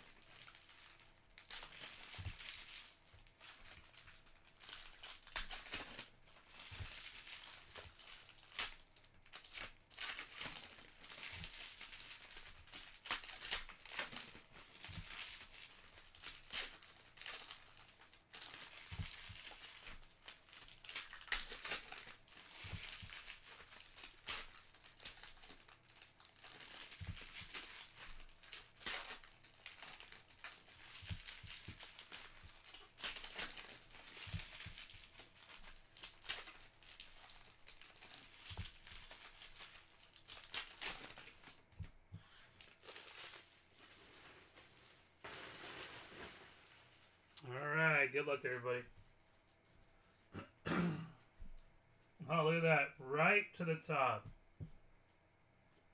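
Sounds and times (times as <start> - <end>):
foil wrappers crinkling: 0.0 - 50.2.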